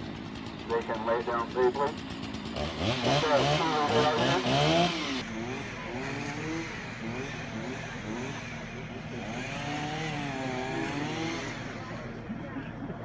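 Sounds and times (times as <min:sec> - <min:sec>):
chainsaw engine revving: 0:00.0 - 0:12.5.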